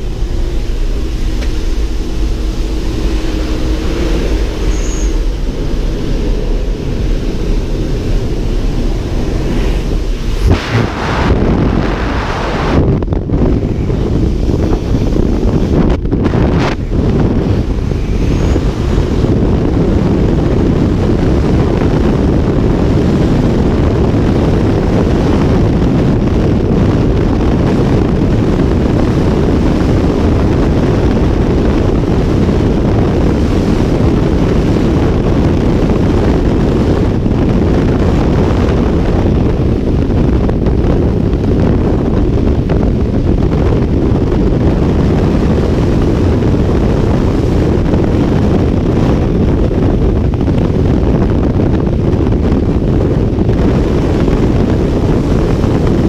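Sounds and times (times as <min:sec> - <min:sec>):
freefall wind rushing: 0:00.0 - 0:56.0.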